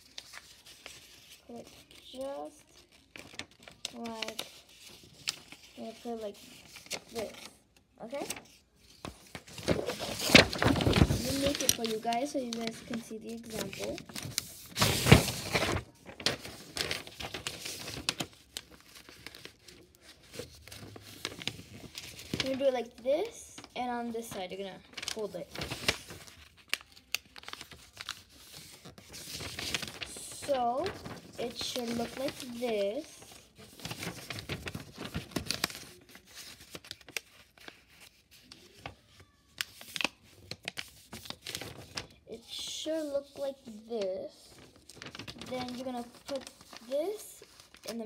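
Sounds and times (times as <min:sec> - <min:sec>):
paper crinkling and rustling: 0:00.0 - 0:48.0.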